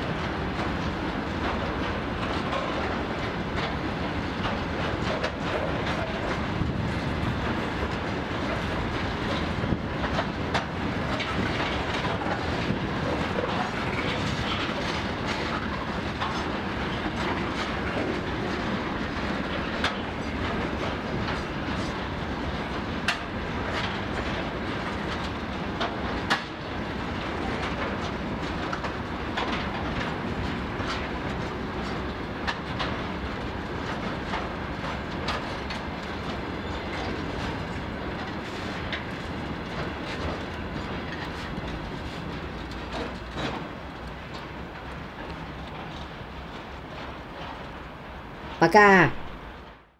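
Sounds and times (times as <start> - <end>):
wheels clicking over rail joints: 0.0 - 48.4
train wheels rumbling on rails: 0.0 - 49.9.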